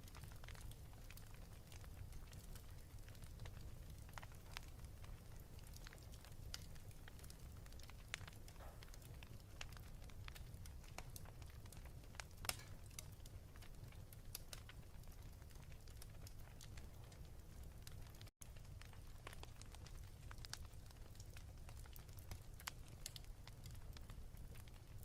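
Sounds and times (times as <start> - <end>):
fire crackling and popping: 0.0 - 25.0
low fire rumble: 0.0 - 25.0.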